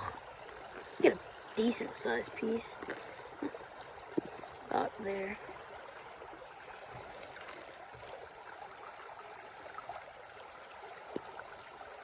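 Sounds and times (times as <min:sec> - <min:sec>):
creek flowing over rocks: 0:00.0 - 0:12.0.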